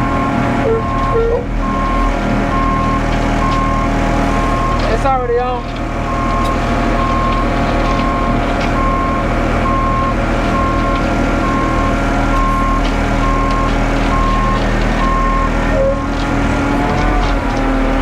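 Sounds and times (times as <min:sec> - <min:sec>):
truck diesel engine running: 0:00.0 - 0:18.0
truck reverse alarm beeping: 0:00.0 - 0:18.0.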